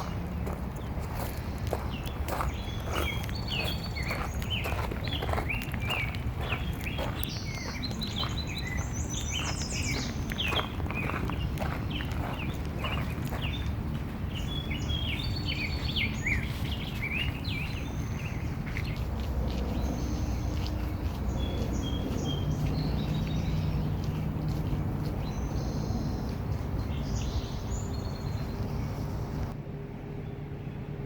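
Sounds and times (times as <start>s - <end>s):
small birds chirping: 0.0s - 29.6s.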